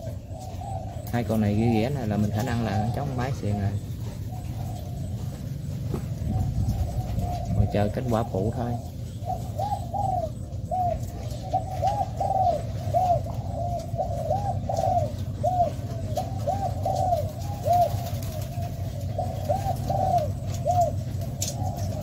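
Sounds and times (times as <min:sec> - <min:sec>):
doves cooing: 0:00.0 - 0:22.0
low hum: 0:00.0 - 0:22.0.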